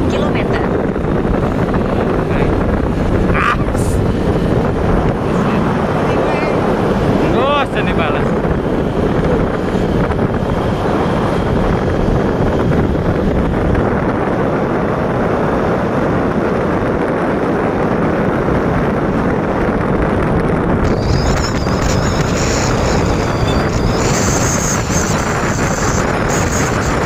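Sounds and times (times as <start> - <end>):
vehicle road and engine noise: 0.0 - 27.0
wind rush on microphone: 0.0 - 27.0.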